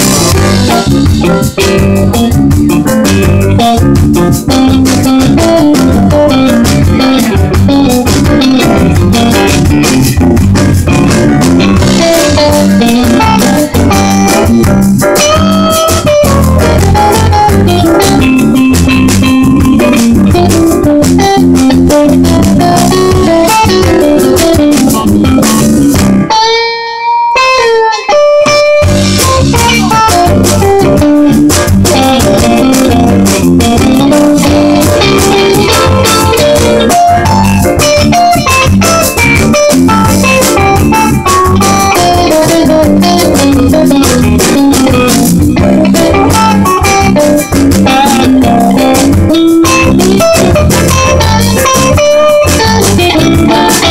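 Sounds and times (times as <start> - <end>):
live jazz band playing: 0.0 - 26.4, 28.0 - 53.9
electric guitar: 0.0 - 53.9.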